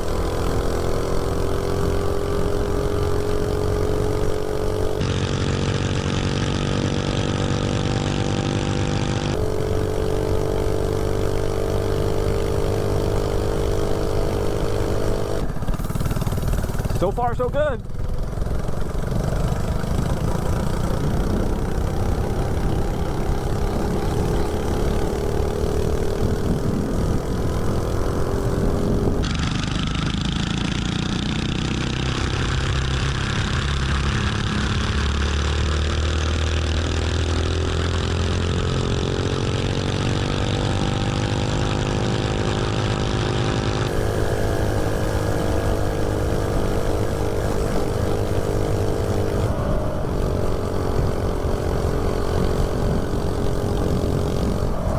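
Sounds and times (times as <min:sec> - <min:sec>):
mini bike engine running hard: 0:00.0 - 0:54.9.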